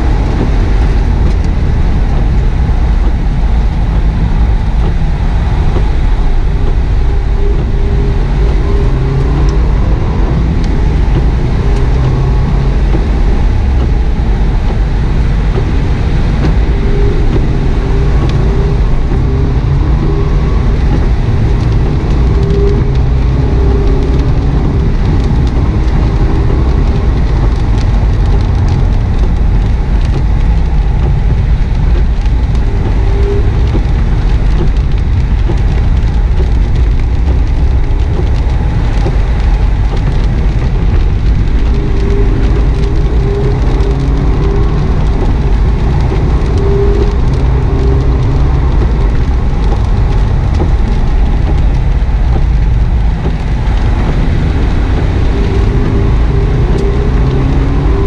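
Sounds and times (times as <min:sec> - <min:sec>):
car engine revving: 0:00.0 - 0:58.0
tyre and road noise: 0:00.0 - 0:58.0.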